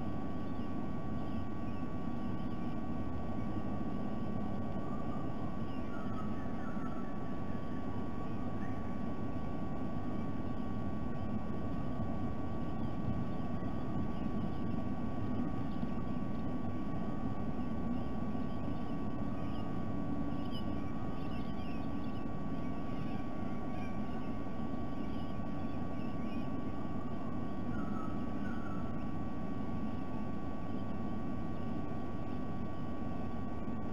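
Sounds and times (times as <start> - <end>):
low background rumble: 0.0 - 33.9
small birds chirping: 0.0 - 33.9
thin electrical hum: 0.0 - 33.9.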